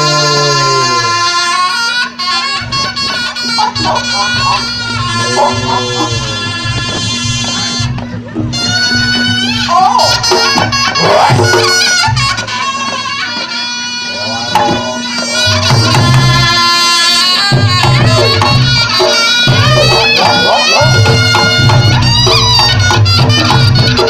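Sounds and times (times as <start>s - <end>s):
pulsing drums: 0.0s - 24.0s
shrill reed trumpet melody: 0.0s - 24.0s
steady drone: 0.0s - 24.0s.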